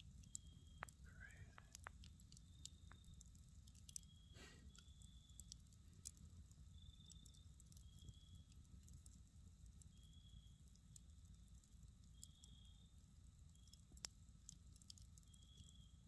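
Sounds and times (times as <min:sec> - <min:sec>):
campfire crackling: 0:00.0 - 0:16.0
low hiss: 0:00.0 - 0:16.0.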